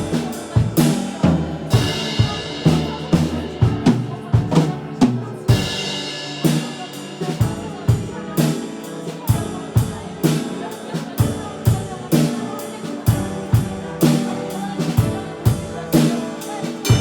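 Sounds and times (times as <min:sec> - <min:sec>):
drum kit beat: 0:00.0 - 0:17.0
piano chords: 0:00.0 - 0:17.0.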